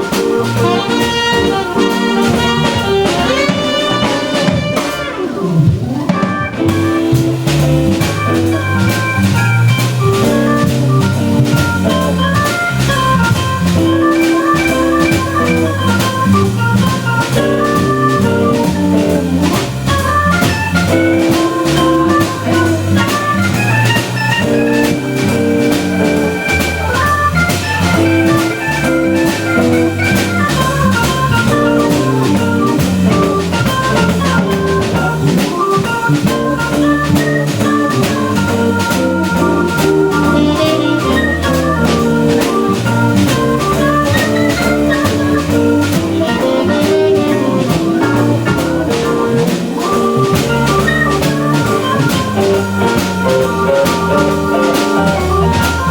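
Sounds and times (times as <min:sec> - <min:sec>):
drum kit beat with cymbals: 0:00.0 - 0:55.9
organ chords and runs: 0:00.0 - 0:55.9.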